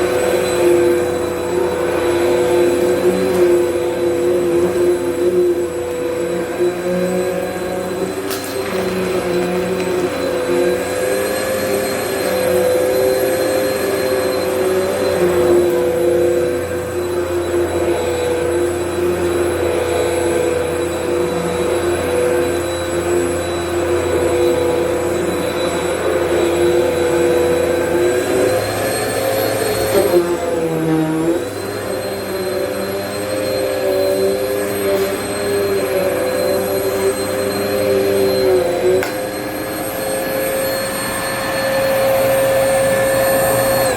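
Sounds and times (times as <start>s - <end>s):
upright vacuum running: 0.0s - 43.9s.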